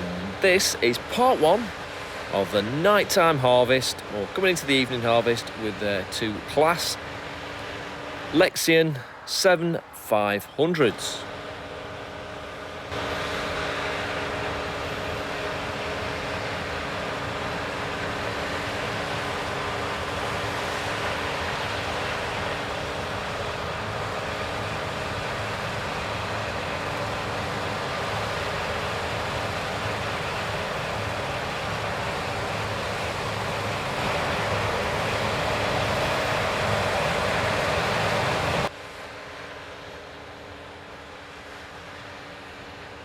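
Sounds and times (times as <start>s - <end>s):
combine harvester drone: 0.0s - 43.0s.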